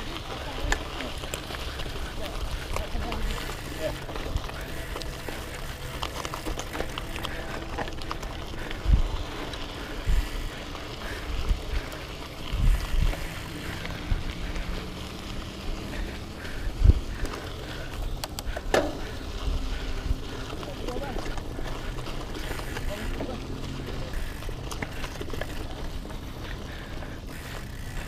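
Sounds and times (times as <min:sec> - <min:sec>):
bike rattles and clicks: 0:00.0 - 0:28.0
bike tyres rumbling on gravel: 0:00.0 - 0:28.0.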